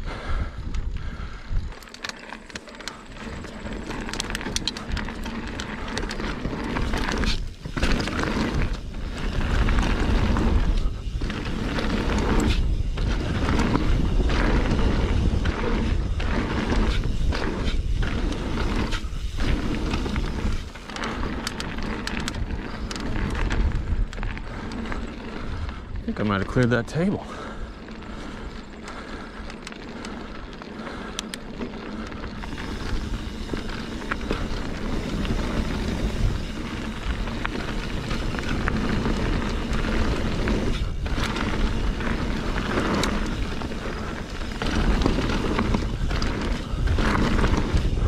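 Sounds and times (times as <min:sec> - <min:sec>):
wind rushing over microphone: 0:00.0 - 0:01.8, 0:03.0 - 0:48.0
tyres rolling on dirt: 0:00.8 - 0:48.0.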